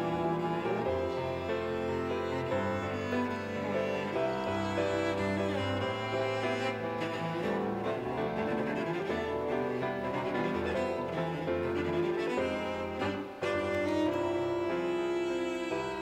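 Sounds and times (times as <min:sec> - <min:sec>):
cello and bowed strings music: 0:00.0 - 0:16.0.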